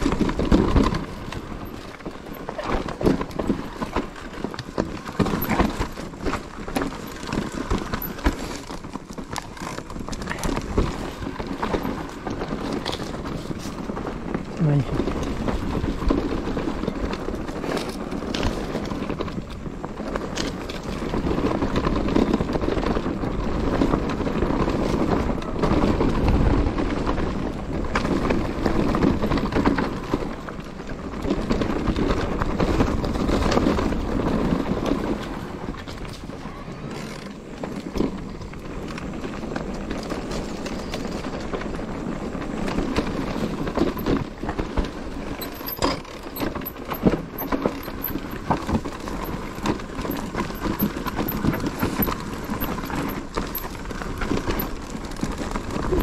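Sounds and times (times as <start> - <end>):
bike rattling and knocking: 0.0 - 56.0
tyres on dirt and stones: 0.0 - 56.0.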